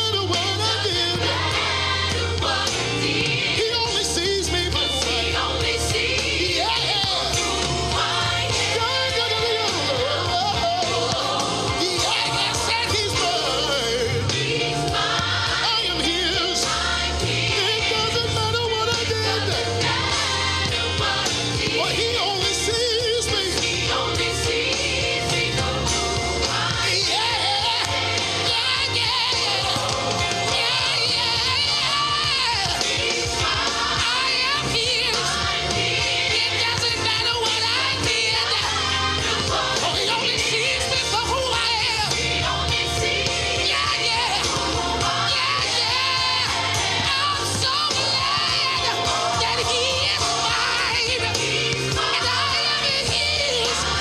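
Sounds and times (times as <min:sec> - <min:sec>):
voices singing praise song: 0:00.0 - 0:54.0.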